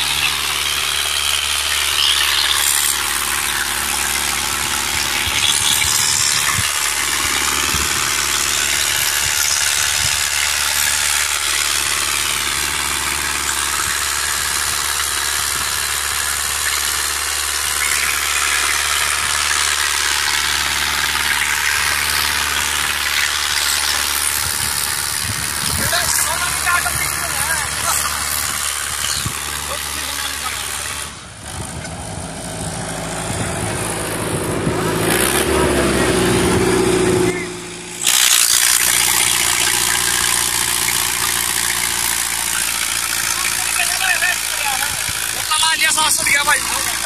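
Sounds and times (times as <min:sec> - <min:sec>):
tractor diesel engine idling: 0:00.0 - 0:47.0.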